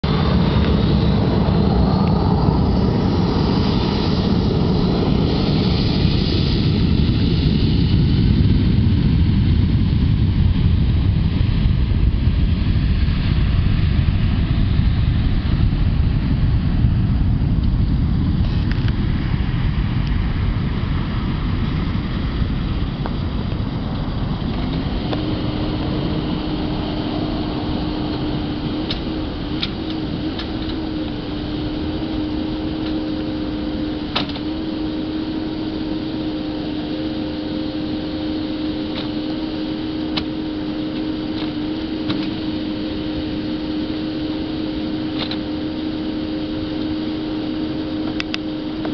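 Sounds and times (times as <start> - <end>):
engine low rumble: 0.0 - 48.9
steady droning hum: 0.0 - 48.9.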